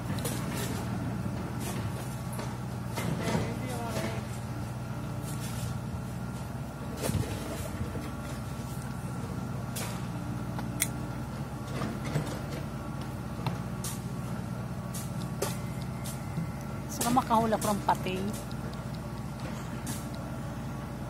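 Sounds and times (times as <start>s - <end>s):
motor running steadily: 0.0s - 21.0s.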